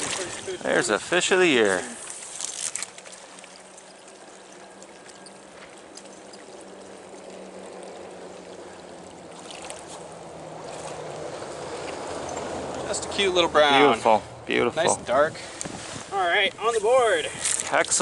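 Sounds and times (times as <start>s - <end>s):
stream water trickling: 0.0s - 18.0s.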